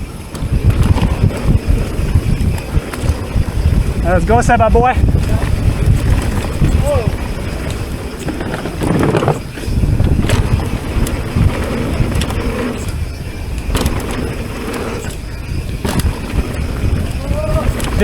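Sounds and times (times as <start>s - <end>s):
bike rattling and knocking: 0.0s - 18.0s
tyres rumbling over dirt: 0.0s - 18.0s
wind rushing over microphone: 0.0s - 18.0s.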